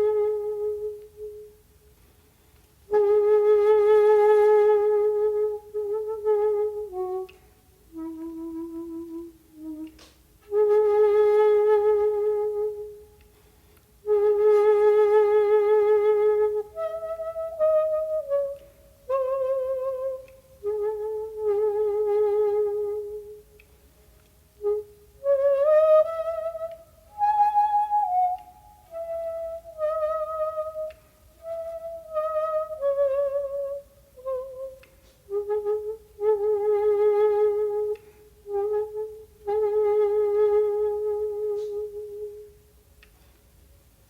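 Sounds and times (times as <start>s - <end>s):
bamboo flute playing: 0.0s - 2.0s, 2.9s - 42.9s.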